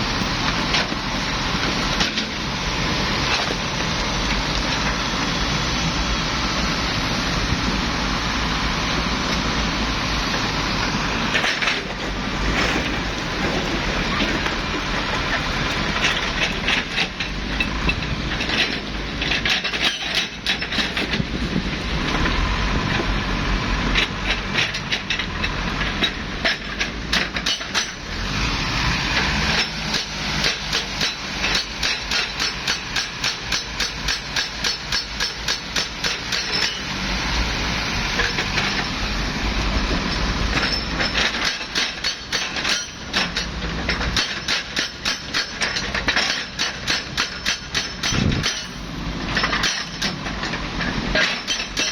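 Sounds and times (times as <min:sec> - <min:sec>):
excavator engine rumble: 0:00.0 - 0:51.9.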